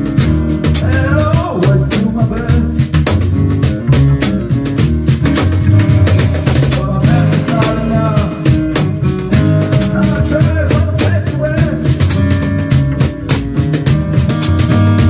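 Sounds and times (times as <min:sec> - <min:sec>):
music with drums bass and guitar: 0:00.0 - 0:15.0.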